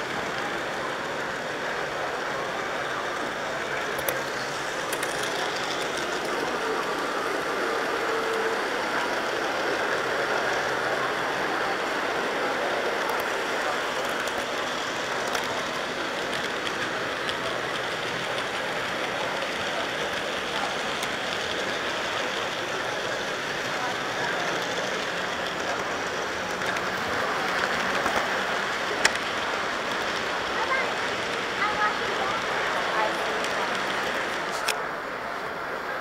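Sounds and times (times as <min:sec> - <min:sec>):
model train rolling on track: 0:00.0 - 0:36.0.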